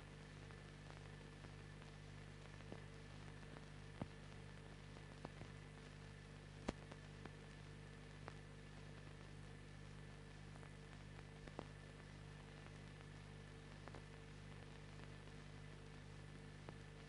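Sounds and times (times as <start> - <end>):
low hum and hiss: 0.0 - 17.0
faint clicks and pops: 0.1 - 17.0.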